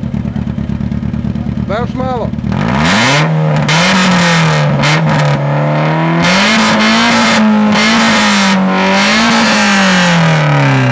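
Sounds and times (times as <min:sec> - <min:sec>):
car engine revving with loud exhaust: 0:00.0 - 0:10.9.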